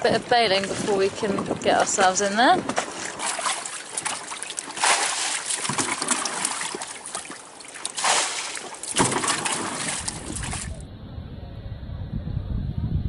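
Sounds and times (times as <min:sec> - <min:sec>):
water sloshing: 0:00.0 - 0:10.8
water splashing: 0:00.0 - 0:10.8.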